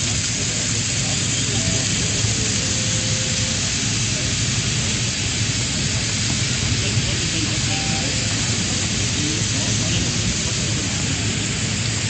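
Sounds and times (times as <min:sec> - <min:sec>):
low engine hum: 0:00.0 - 0:12.0
water spraying and falling: 0:00.0 - 0:12.0.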